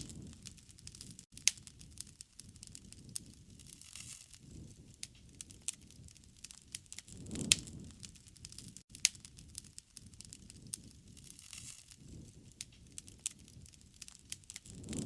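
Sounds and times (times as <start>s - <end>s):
flames rustling: 0.0s - 15.0s
wood fire crackling: 0.0s - 15.0s.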